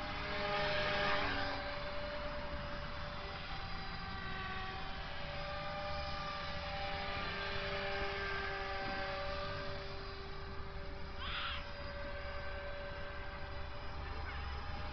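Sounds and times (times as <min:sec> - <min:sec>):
model helicopter rotor whine: 0:00.0 - 0:14.9.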